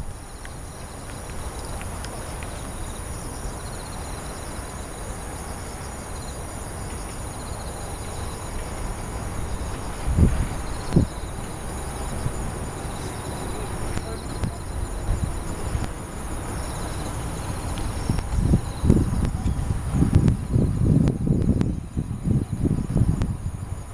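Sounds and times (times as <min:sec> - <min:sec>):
insects singing: 0:00.0 - 0:23.9
pulsed insect trills: 0:00.0 - 0:23.9.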